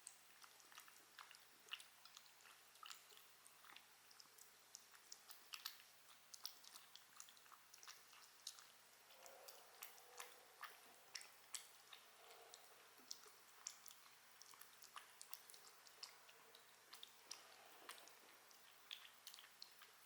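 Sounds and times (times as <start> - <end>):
wet mouth chewing clicks: 0.0 - 20.0.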